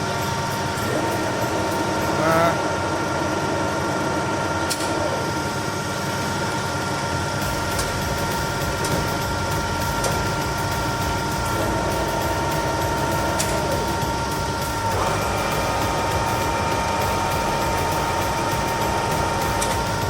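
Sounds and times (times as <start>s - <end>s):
lathe machine hum: 0.0s - 20.0s
thin steady whine: 0.0s - 20.0s.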